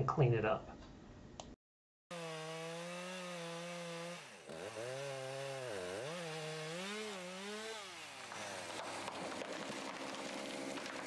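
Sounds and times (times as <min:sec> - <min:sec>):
chainsaw cutting wood: 0:02.1 - 0:11.0.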